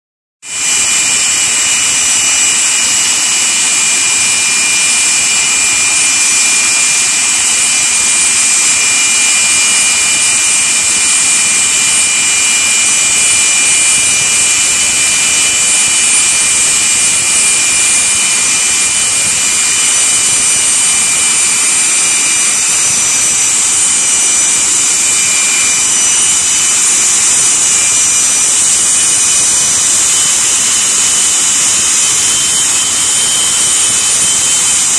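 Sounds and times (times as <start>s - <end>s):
jet turbine engines whining: 0.5s - 34.9s.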